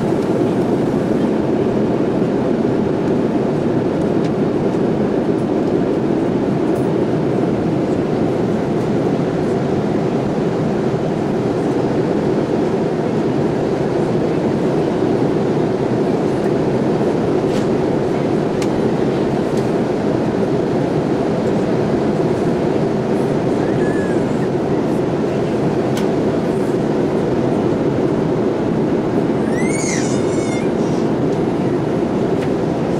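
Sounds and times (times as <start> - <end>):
airplane cabin rumble: 0.0 - 32.9.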